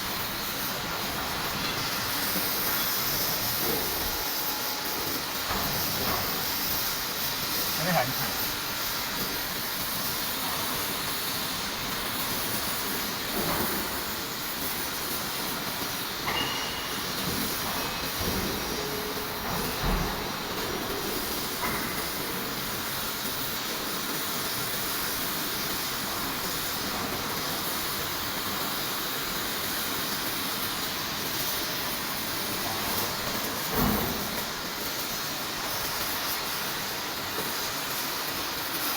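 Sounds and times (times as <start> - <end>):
furnace hissing: 0.0 - 38.9.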